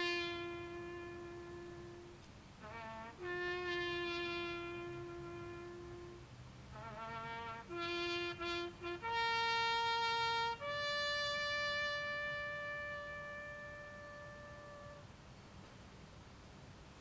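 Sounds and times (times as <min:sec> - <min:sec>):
brass bugle call: 0:00.0 - 0:15.2.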